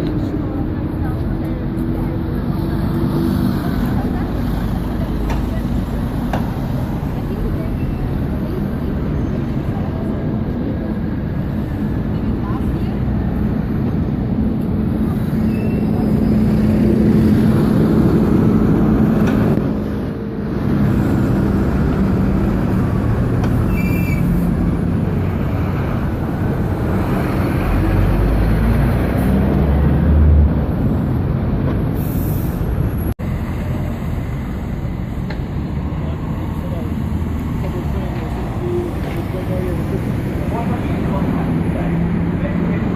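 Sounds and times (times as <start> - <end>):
traffic engines droning: 0.0 - 42.9
vehicle rumbling past: 0.0 - 42.9.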